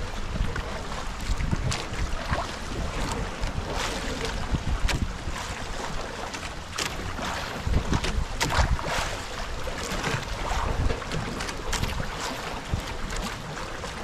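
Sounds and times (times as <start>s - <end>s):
waves slapping against boat hull: 0.0s - 14.0s
wind buffeting microphone: 0.0s - 14.0s.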